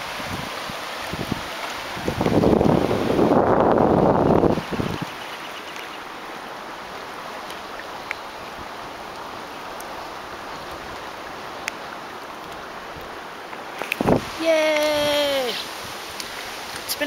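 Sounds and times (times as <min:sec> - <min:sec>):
shallow water flowing over sand: 0:00.0 - 0:17.0.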